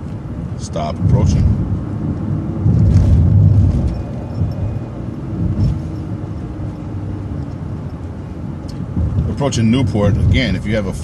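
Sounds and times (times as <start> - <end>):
bus engine and road noise: 0.0 - 11.0.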